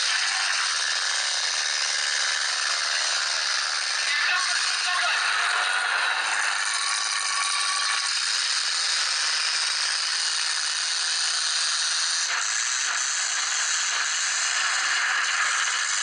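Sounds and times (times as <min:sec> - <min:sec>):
wheel spinning in dirt: 0:00.0 - 0:16.0.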